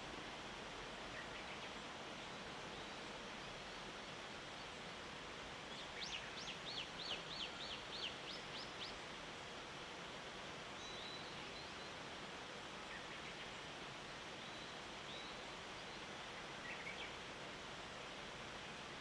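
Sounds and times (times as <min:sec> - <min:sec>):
faint outdoor background hiss: 0:00.0 - 0:19.0.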